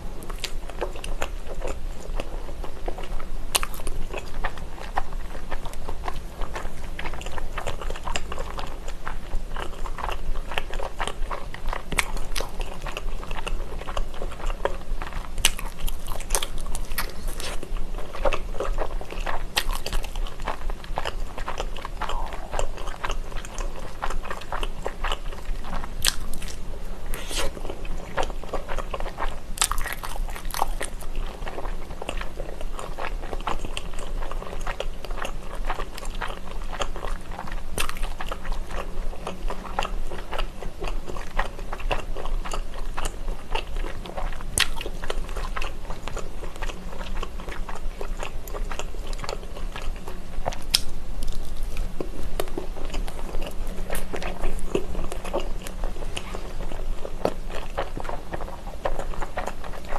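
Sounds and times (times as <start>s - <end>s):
biting and chewing food: 0.2s - 59.9s.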